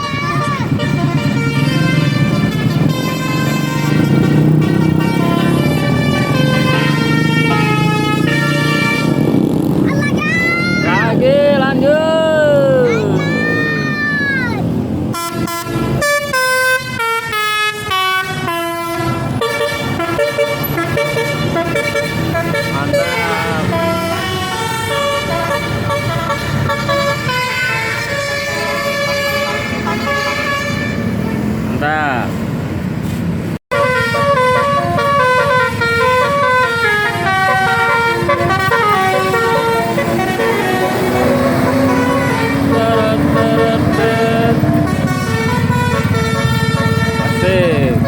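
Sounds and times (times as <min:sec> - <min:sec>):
musical bus horn melody: 0:00.0 - 0:09.5, 0:15.1 - 0:31.4, 0:33.7 - 0:48.0
vehicle and road noise: 0:00.0 - 0:48.0.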